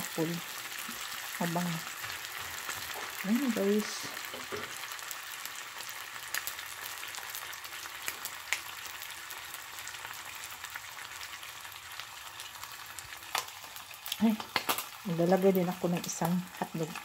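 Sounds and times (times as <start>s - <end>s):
ham sizzling in oil: 0.0s - 17.0s.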